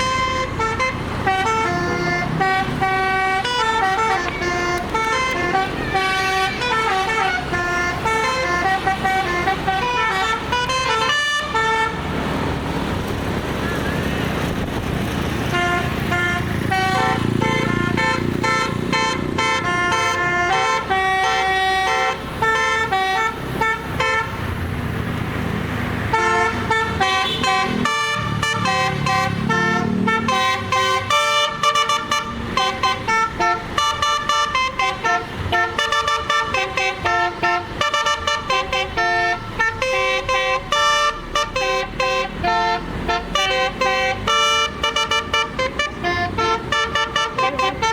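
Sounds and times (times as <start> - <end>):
multi-tone horn melody: 0.0 - 12.4, 13.4 - 24.6, 25.9 - 47.9
vehicle engine rumbling: 0.0 - 47.9.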